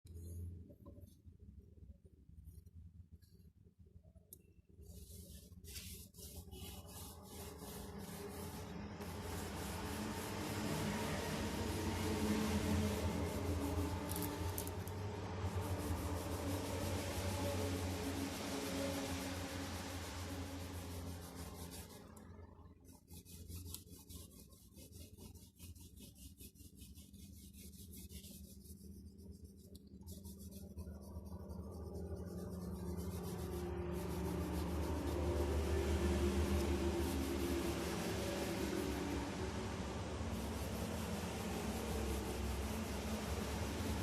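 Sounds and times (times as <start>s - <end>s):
steady low hum: 0.0s - 44.0s
drawing tool rubbing paper: 4.8s - 22.2s, 22.9s - 39.2s, 40.3s - 44.0s.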